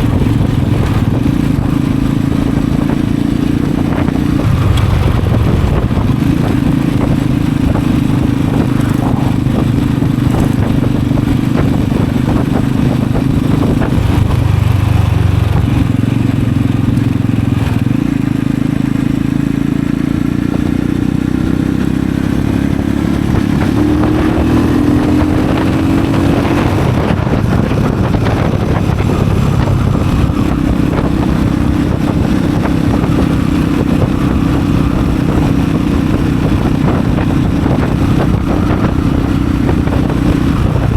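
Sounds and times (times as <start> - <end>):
motorcycle exhaust while riding: 0.0 - 40.9.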